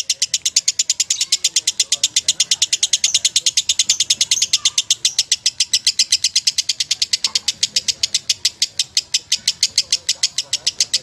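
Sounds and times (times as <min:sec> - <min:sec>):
lovebird chirping: 0:00.0 - 0:11.0.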